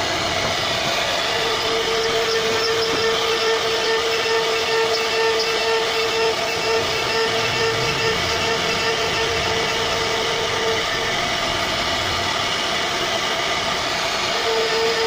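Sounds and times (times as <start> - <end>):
bit cutting wood: 0.0 - 15.0
router spindle whine: 0.0 - 15.0.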